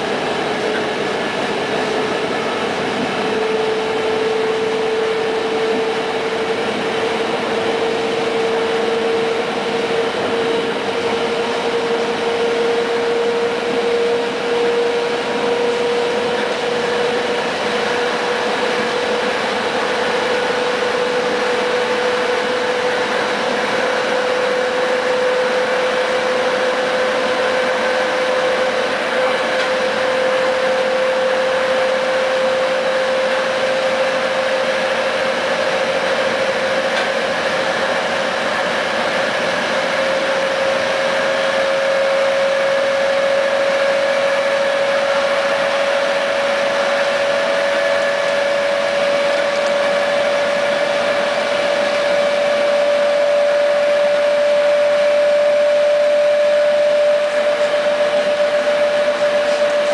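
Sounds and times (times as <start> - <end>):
rising whine: 0.0 - 59.9
train wheels and air noise: 0.0 - 59.9.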